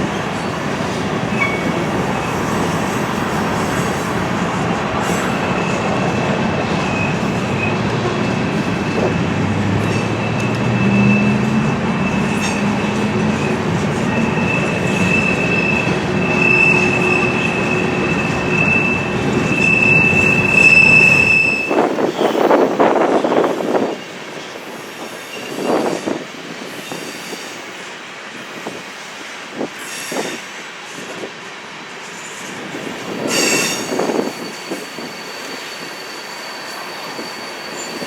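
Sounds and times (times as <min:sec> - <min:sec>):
train rumble: 0:00.0 - 0:38.0
train wheels squealing on rails: 0:00.0 - 0:38.0.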